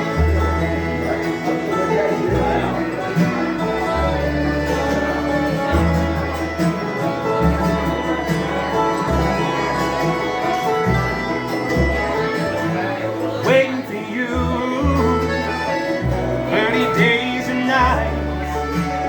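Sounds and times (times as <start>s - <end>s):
bluegrass band playing: 0.0s - 19.0s.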